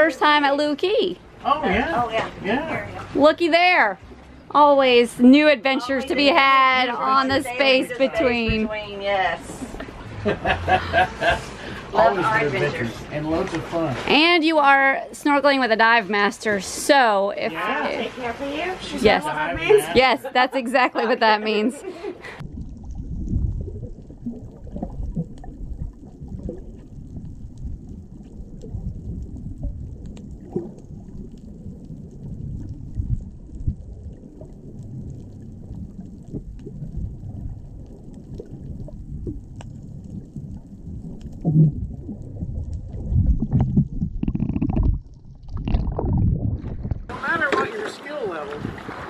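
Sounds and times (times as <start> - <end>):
underwater rumble: 0.0 - 16.3, 22.2 - 49.0
water gurgling: 0.0 - 49.0.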